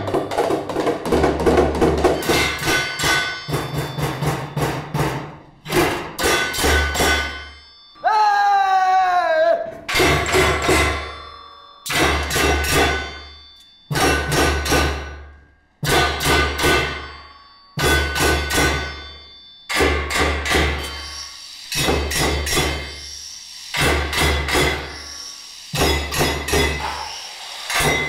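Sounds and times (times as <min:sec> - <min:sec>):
hammers striking metal tools: 0:00.0 - 0:08.0, 0:09.7 - 0:28.0.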